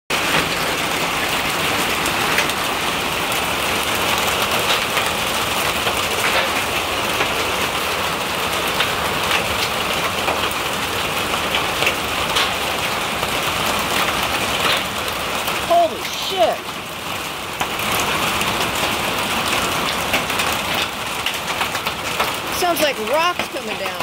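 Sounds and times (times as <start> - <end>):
hail and rain on roof panels: 0.1 - 24.0.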